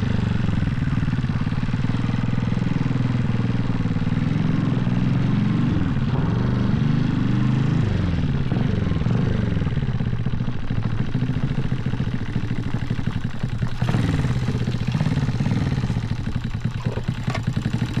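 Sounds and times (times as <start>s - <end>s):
minibike engine revving: 0.0s - 18.0s.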